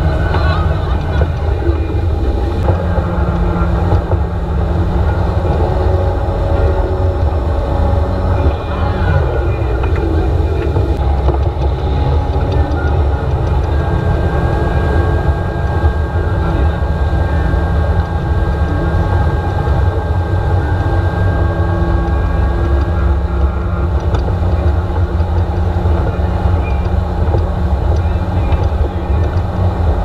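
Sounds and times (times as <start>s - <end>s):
churning wake: 0.0s - 30.0s
motorboat engine: 0.0s - 30.0s
wind on microphone: 0.0s - 30.0s.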